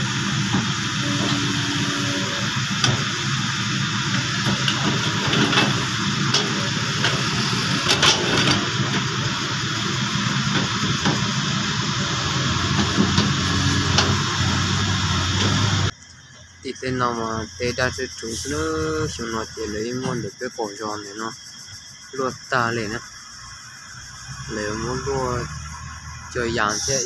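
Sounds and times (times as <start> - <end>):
excavator diesel engine running: 0.0 - 16.0, 16.8 - 20.8, 24.5 - 27.0.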